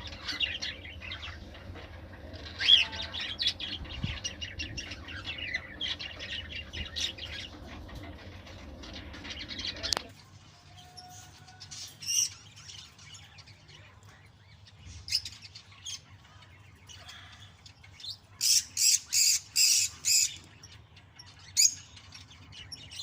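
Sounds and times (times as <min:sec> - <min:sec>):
cockatiels chirping and squawking: 0:00.0 - 0:23.0.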